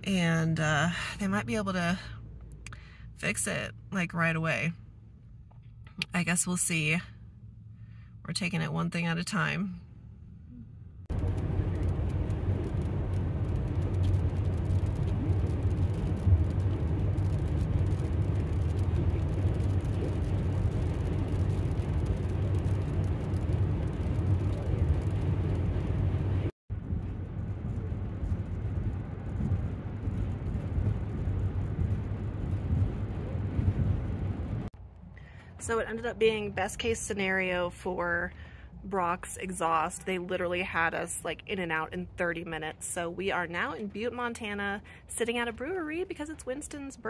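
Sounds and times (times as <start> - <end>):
van engine and road hum: 0.0 - 47.0.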